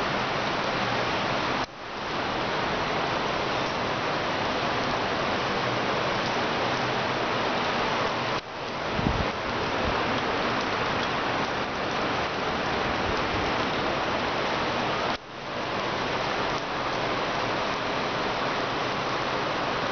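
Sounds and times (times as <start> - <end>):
heavy rain on pavement: 0.0 - 19.9.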